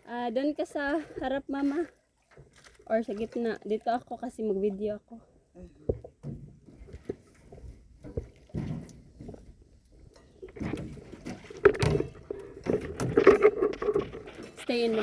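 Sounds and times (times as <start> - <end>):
people shuffling in a canoe: 0.5 - 4.6, 5.2 - 15.0.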